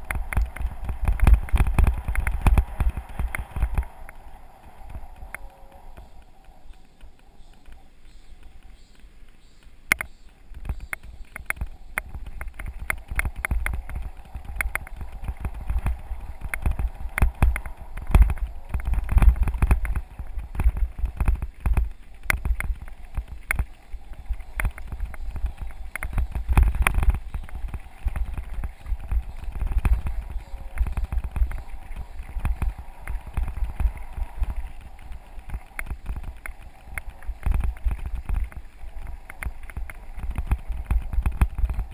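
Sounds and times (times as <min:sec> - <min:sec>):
bike rattling over gravel: 0:00.0 - 0:41.9
wind rumble on microphone: 0:00.0 - 0:41.9.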